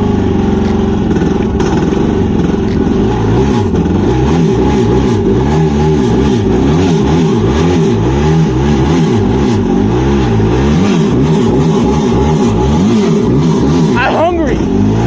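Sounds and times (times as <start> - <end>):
jet ski engine revving: 0.0 - 15.0.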